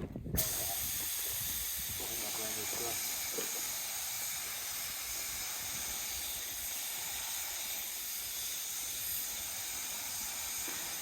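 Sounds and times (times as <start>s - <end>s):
spray gun air hiss: 0.4s - 11.0s.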